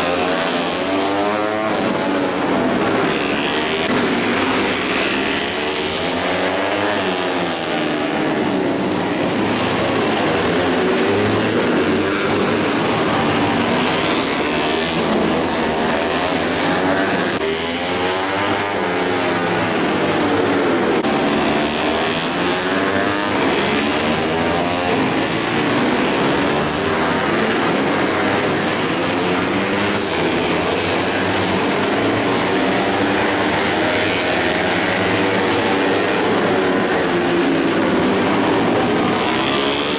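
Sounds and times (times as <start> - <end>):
racing motorcycle engines revving: 0.0 - 39.9.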